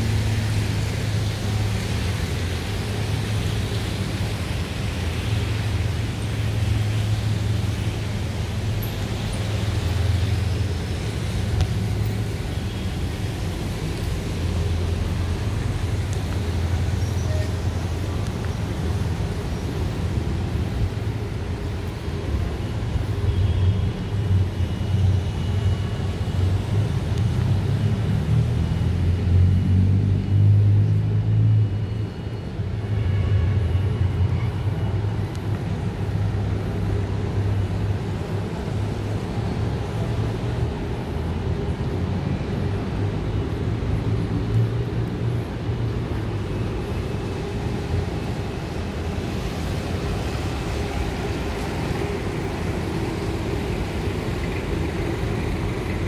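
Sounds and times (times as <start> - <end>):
street traffic rumbling: 0.0 - 56.0.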